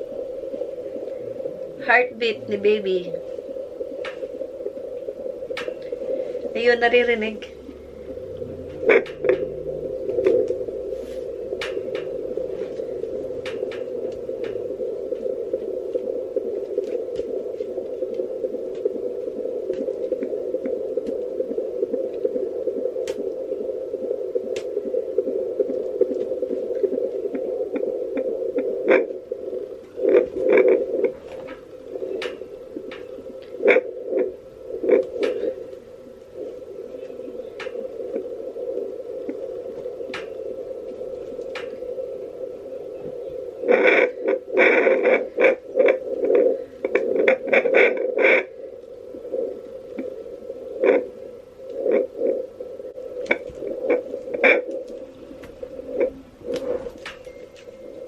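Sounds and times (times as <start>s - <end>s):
fetal heartbeat pulse: 0.0s - 58.0s
steady hum: 0.0s - 58.0s.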